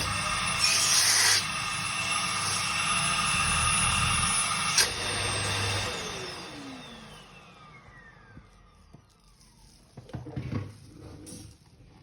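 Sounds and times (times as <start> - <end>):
vacuum motor spinning down: 0.0 - 9.6.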